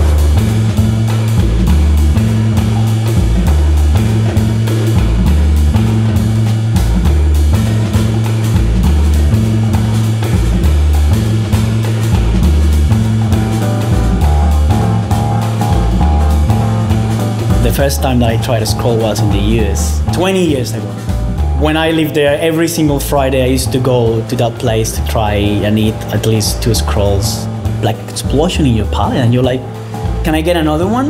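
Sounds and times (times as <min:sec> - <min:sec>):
deep repeating bass line: 0:00.0 - 0:31.0
steady drum beat: 0:00.0 - 0:31.0.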